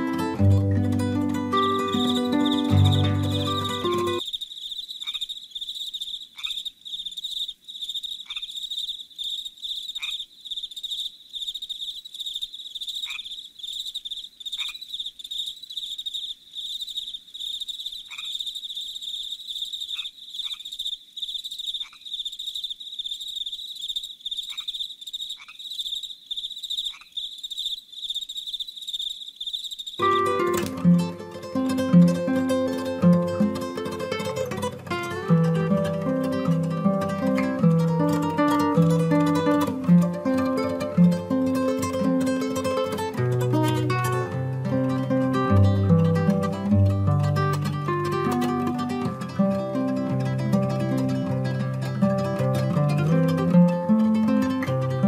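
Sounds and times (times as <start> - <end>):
cricket chorus trilling: 0.0 - 54.9.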